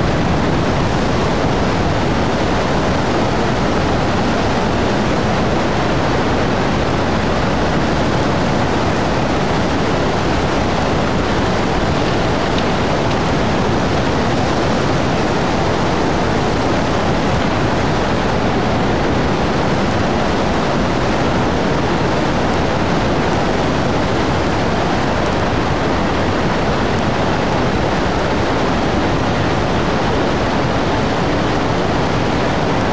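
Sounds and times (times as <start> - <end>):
floodwater rushing: 0.0 - 32.9.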